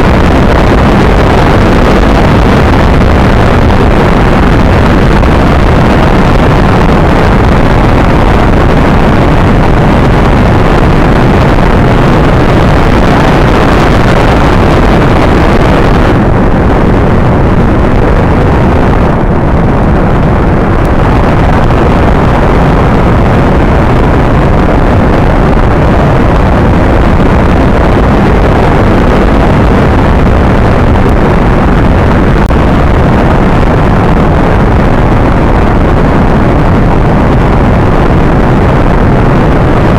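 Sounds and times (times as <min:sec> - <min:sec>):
rocket engine rumble: 0:00.0 - 0:39.9.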